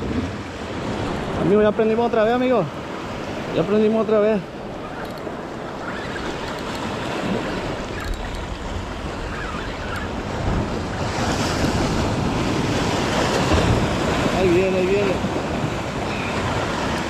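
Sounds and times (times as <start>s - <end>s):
surf breaking over rocks: 0.0s - 17.0s
wind buffeting microphone: 2.7s - 17.0s.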